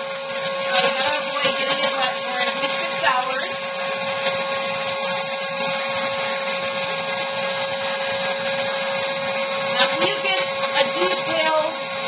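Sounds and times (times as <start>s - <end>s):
spray machine motor humming: 0.0s - 12.0s.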